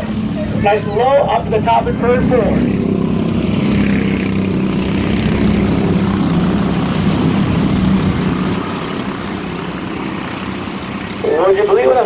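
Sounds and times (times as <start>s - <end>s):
mini race truck engines droning: 0.0s - 12.0s.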